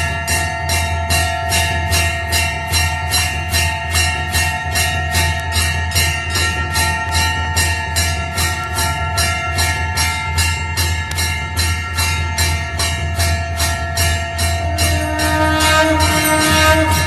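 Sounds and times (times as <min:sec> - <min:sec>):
temple bell ringing: 0:00.0 - 0:17.0.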